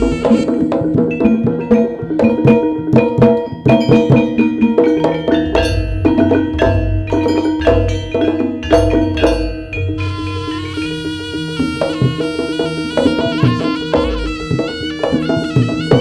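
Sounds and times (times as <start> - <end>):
gamelan drums: 0.0 - 16.0
ringing metal mallet instruments: 0.0 - 16.0.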